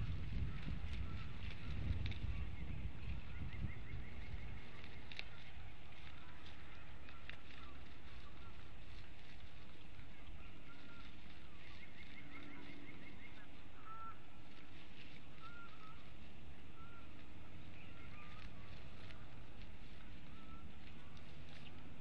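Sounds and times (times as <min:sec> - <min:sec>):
faint wild bird calls: 0:00.0 - 0:22.0
low outdoor rumble and hiss: 0:00.0 - 0:22.0.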